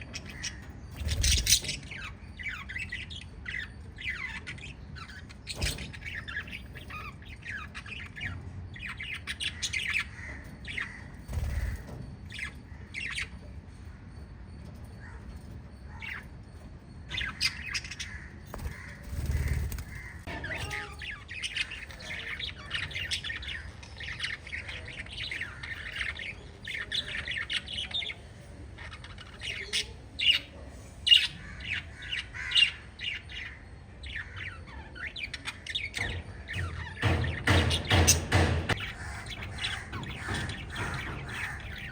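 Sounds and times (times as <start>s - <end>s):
lovebirds chirping and squawking: 0.0s - 41.9s.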